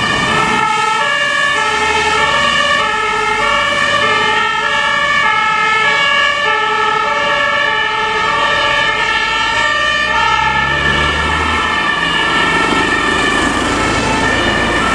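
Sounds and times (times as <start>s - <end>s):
fire engine two-tone siren: 0.0s - 14.9s.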